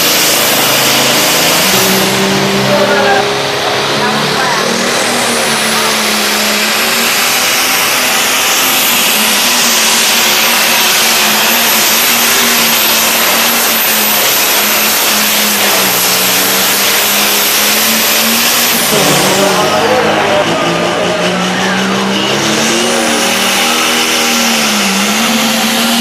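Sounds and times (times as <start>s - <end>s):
tractor diesel engine at full throttle: 0.0s - 26.0s.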